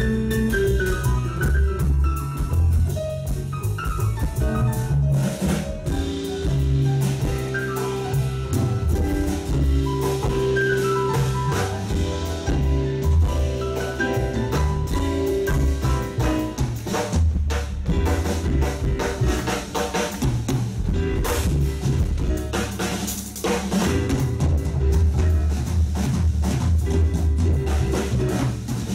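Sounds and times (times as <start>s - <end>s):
drum kit with cymbals: 0.0s - 28.9s
upright bass: 0.0s - 28.9s.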